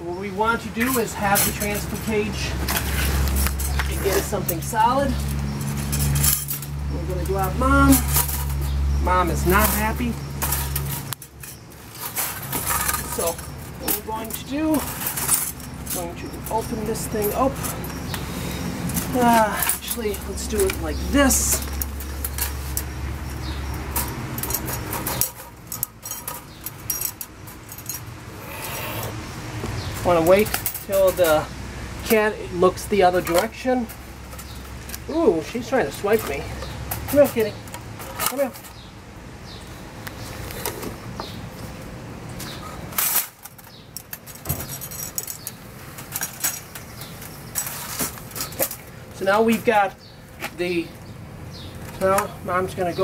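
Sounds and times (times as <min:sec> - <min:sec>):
wire trap cages rattling: 0:00.4 - 0:39.6, 0:42.4 - 0:53.0.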